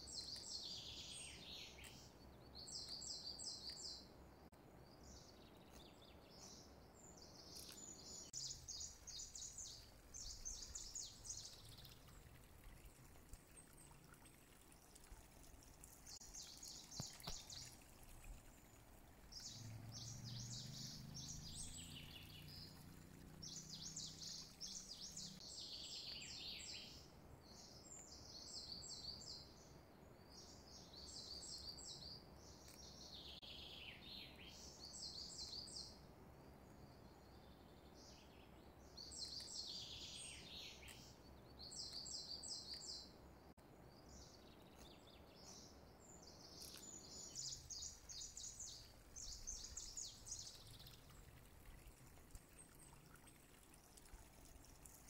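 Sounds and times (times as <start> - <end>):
faint birdsong chirping: 0.0 - 55.0.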